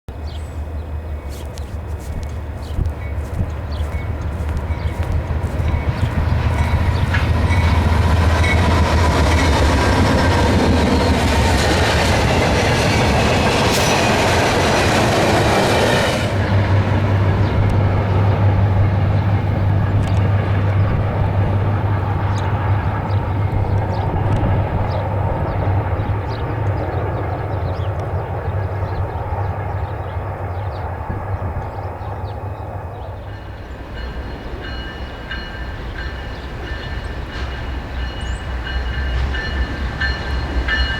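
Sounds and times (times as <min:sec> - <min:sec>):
diesel locomotive passing: 0:00.1 - 0:40.9
train cars rumbling: 0:00.1 - 0:40.9.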